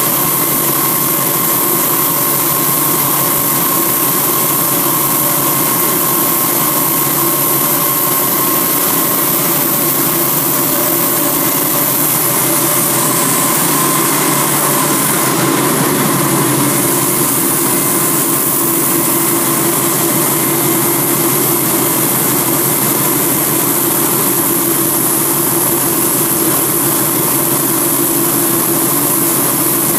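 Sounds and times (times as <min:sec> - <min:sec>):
wire saw cutting stone: 0:00.0 - 0:25.0.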